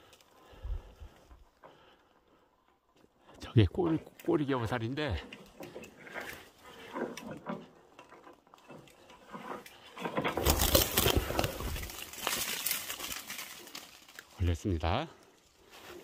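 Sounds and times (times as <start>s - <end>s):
branches rustling and crackling: 0.0s - 16.0s.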